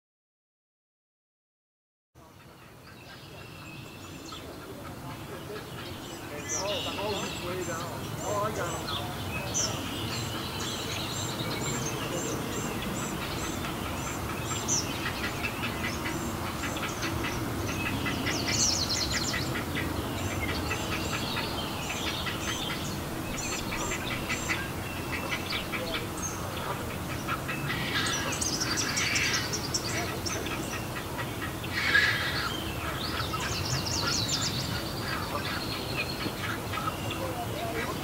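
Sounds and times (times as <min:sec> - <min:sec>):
low background noise: 0:02.2 - 0:38.0
heron chicks calling: 0:02.4 - 0:38.0.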